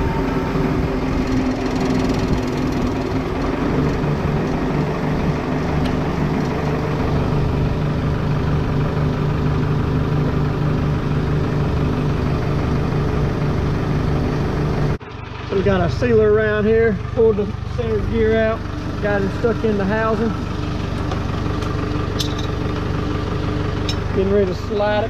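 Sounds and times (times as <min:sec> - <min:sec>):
farm equipment engine idling: 0:00.0 - 0:25.0.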